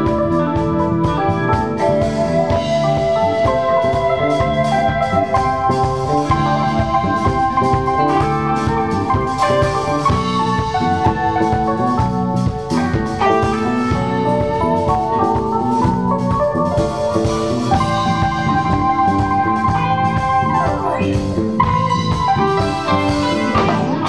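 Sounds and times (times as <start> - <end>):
drum kit beat: 0.0 - 24.0
held keyboard or organ notes: 0.0 - 24.0
live band music: 0.0 - 24.0.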